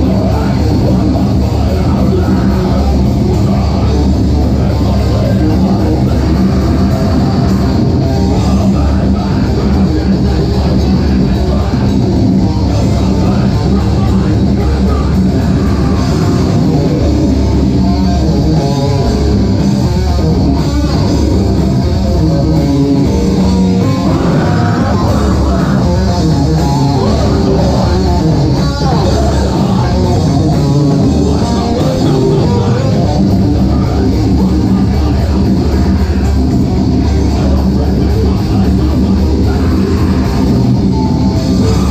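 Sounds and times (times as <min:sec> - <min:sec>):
person singing into a microphone: 0:00.0 - 0:19.4, 0:23.0 - 0:41.9
bass guitar: 0:00.0 - 0:41.9
drum kit: 0:00.0 - 0:41.9
electric guitar: 0:00.0 - 0:41.9.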